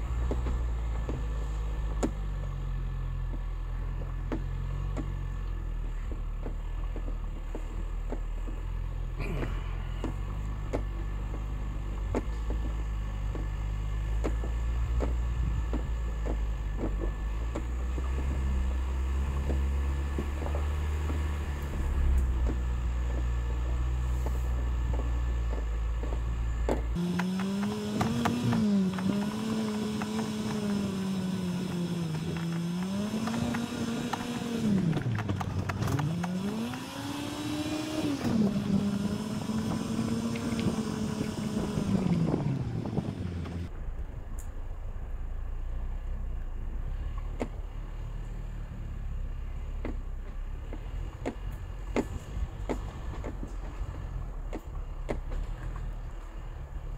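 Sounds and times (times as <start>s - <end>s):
gravel clicking under tyres: 0.0s - 56.9s
high engine whine: 0.0s - 56.9s
vehicle engine running low: 0.0s - 56.9s.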